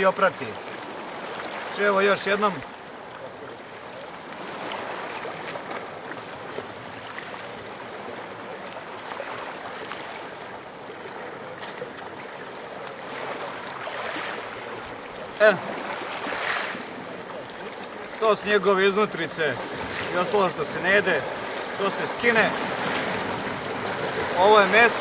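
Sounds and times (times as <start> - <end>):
waves lapping on pebbles: 0.0 - 25.0.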